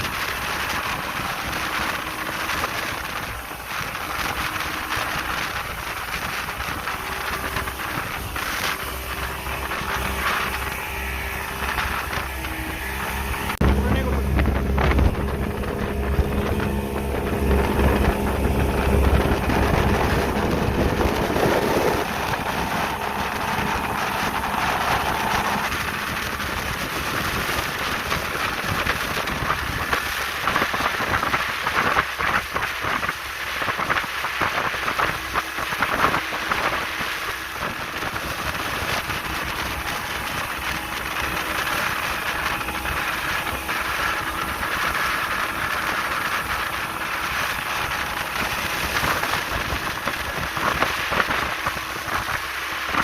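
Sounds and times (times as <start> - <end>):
speedboat engine: 0.0 - 53.0
water rushing past hull: 0.0 - 53.0
wind buffeting microphone: 0.0 - 53.0.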